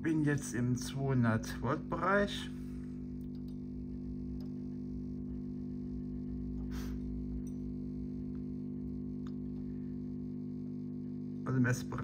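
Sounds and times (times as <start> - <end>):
tube tester mains hum: 0.0 - 12.0.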